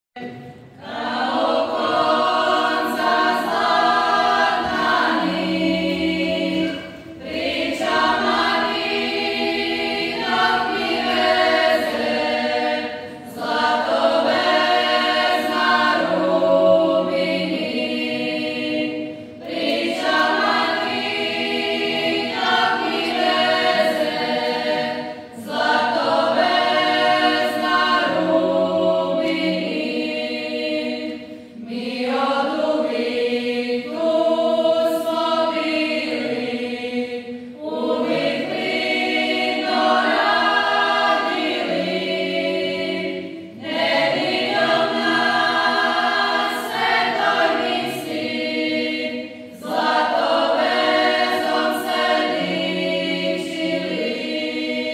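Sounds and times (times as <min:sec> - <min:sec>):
choir singing unaccompanied: 0:00.2 - 0:54.9.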